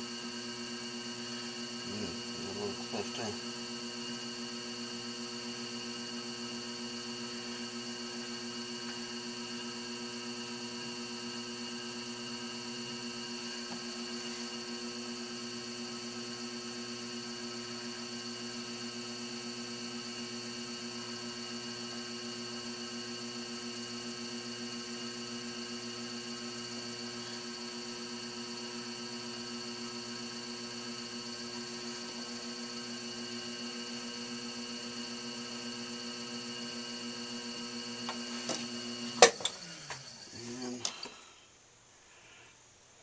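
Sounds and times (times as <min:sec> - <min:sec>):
potter's wheel motor hum: 0:00.0 - 0:41.5.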